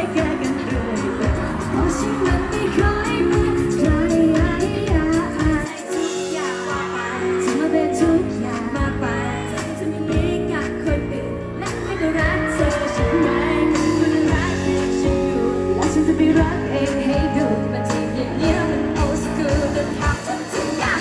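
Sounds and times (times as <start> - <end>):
backing track with steady beat: 0.0 - 21.0
female vocals singing pop: 0.0 - 21.0.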